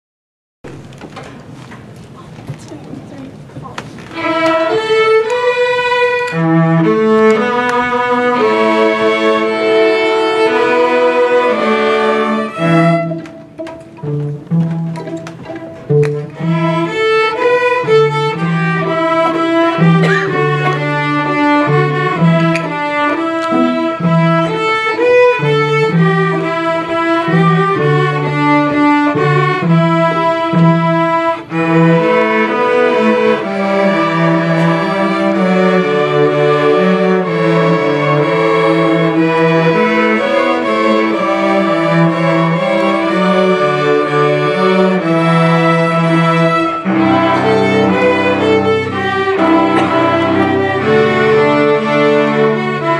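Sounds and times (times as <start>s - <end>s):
string ensemble playing: 2.9s - 52.9s.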